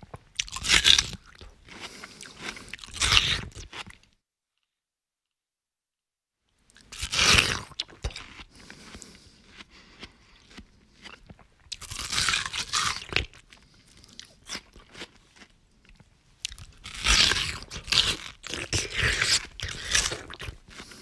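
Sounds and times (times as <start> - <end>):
person chewing watermelon: 0.2 - 4.1, 6.7 - 21.0.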